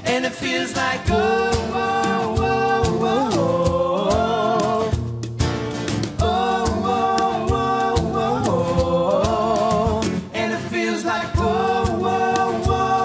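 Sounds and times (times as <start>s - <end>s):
wordless vocal notes: 0.0s - 5.1s, 6.0s - 13.0s
cajon beat: 0.0s - 13.0s
strummed acoustic guitars: 0.0s - 13.0s.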